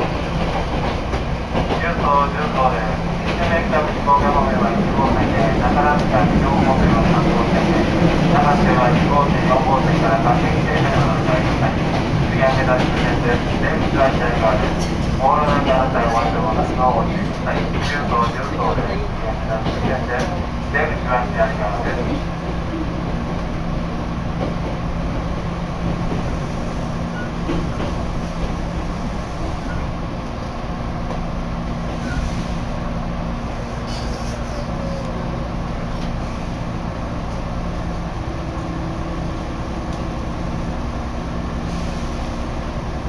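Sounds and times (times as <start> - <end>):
train carriage rumble: 0.0 - 43.0.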